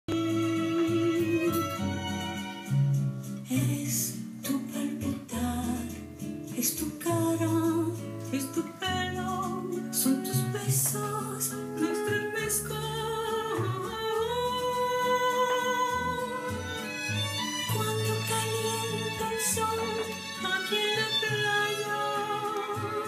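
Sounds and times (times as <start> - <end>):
woman singing with accompaniment: 0.1 - 2.8, 3.4 - 23.0.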